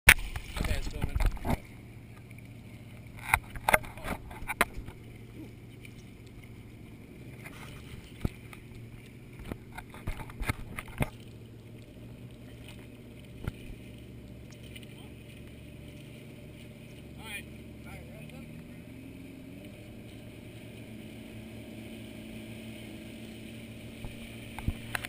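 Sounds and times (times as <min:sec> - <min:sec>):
motorboat engine humming: 0:00.0 - 0:25.0.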